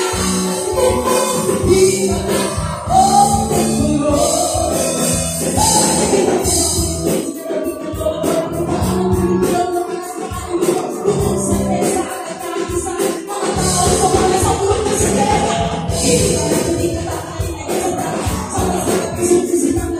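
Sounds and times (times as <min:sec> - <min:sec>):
drum kit: 0:00.0 - 0:19.9
electric guitar: 0:00.0 - 0:19.9
lead singer: 0:00.0 - 0:19.9.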